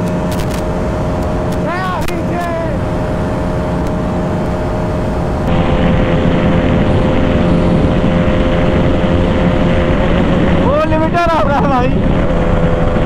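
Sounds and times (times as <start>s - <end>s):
motorcycle engine at high revs: 0.0s - 13.0s
wind rushing over microphone: 0.0s - 13.0s.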